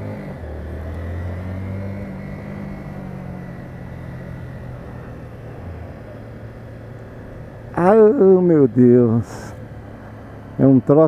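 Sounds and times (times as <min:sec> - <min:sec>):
motorcycle engine at low revs: 0:00.0 - 0:11.0
road noise: 0:00.0 - 0:11.0.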